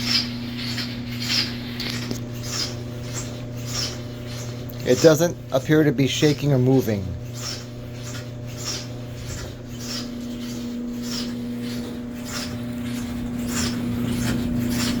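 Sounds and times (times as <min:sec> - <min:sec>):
clothes dryer motor hum: 0:00.0 - 0:15.0
rhythmic rubbing scraping noise: 0:00.0 - 0:15.0.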